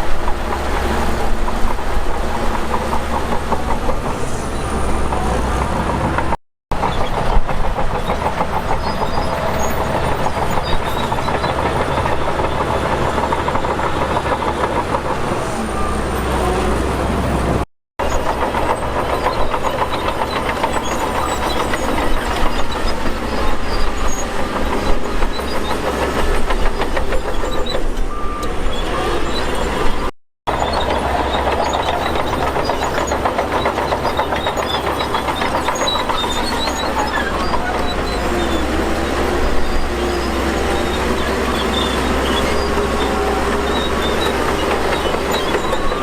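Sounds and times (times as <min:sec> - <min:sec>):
steel tracks clattering: 0:00.0 - 0:17.4, 0:18.0 - 0:46.0
bulldozer engine running: 0:00.0 - 0:46.0.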